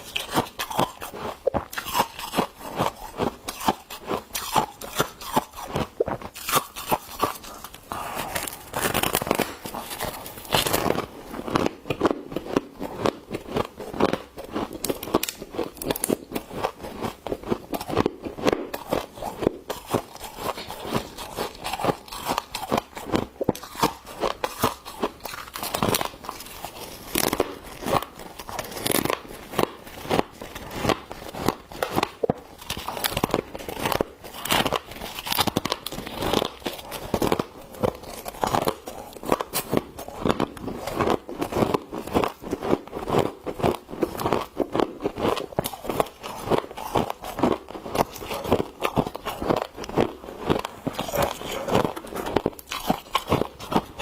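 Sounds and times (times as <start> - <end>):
frost crunching being scooped: 0.0 - 54.0.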